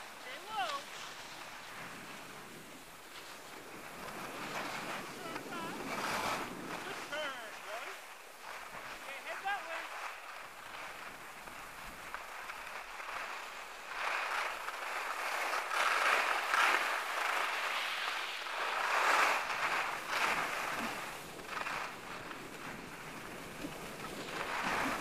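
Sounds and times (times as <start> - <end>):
skis scraping on snow: 0.0 - 25.0.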